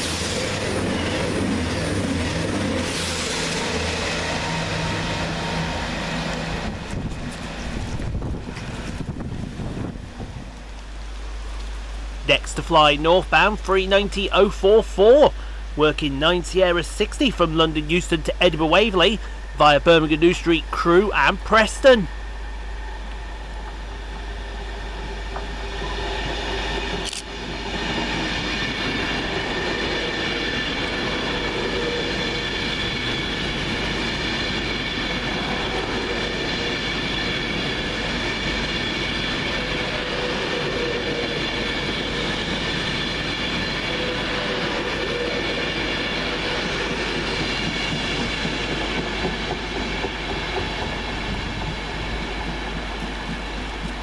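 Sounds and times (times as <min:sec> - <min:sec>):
train wheels rushing on rail: 0:00.0 - 0:54.0.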